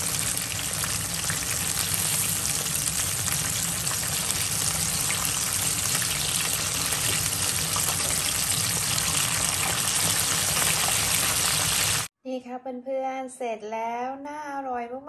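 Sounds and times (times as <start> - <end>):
chicken deep-frying in oil: 0.0 - 12.1.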